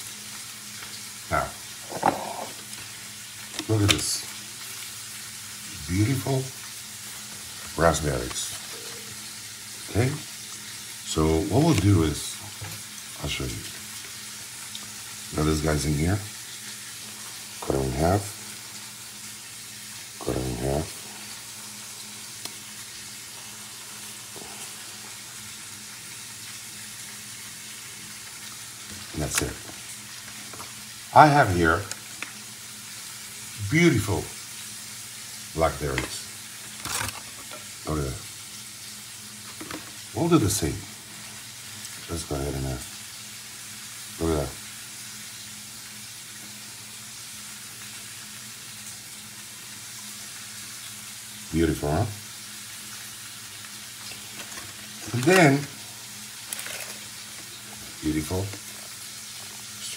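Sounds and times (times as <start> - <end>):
steak sizzling in a pan: 0.0 - 59.9.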